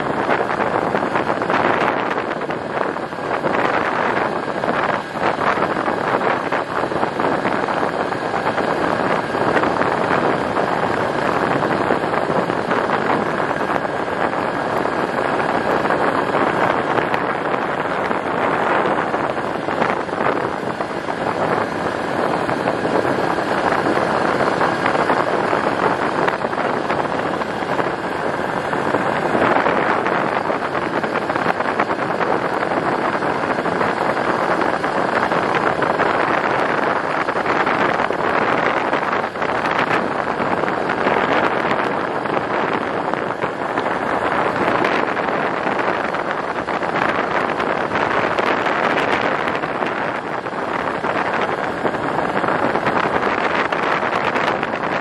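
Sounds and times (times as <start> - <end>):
vehicle engine: 0.0 - 55.0
wind buffeting microphone: 0.0 - 55.0.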